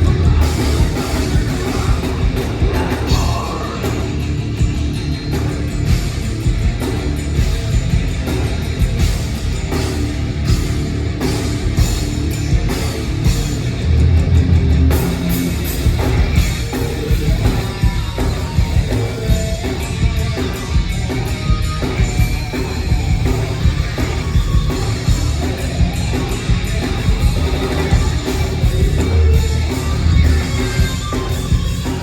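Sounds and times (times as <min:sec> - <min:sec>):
distorted electric guitars: 0:00.0 - 0:32.0
drum kit: 0:00.0 - 0:32.0
heavy bass: 0:00.0 - 0:32.0.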